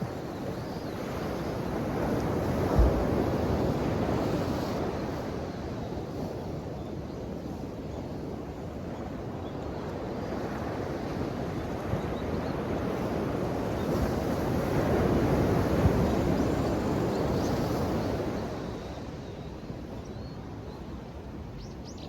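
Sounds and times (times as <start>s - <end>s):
ocean waves washing onto shore: 0.0s - 21.6s.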